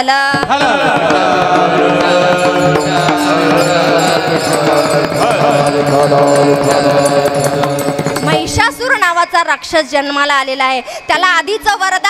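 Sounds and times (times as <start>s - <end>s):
percussion beat: 0.0s - 10.5s
harmonium sustained notes: 0.6s - 12.0s.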